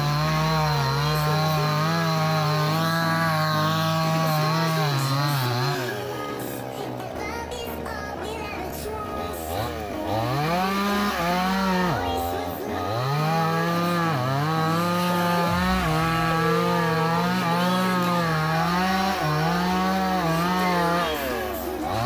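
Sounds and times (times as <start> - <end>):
chainsaw revving: 0.0 - 22.0.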